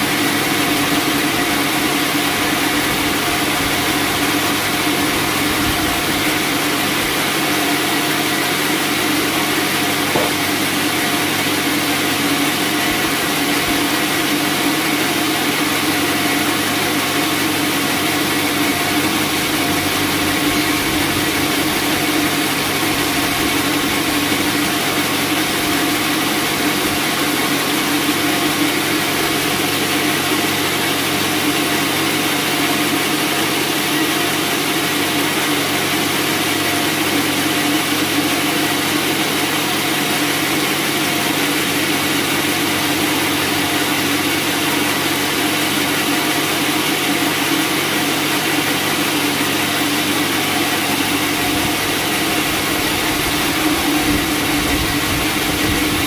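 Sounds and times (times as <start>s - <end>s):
bandsaw mill droning: 0.0s - 56.0s.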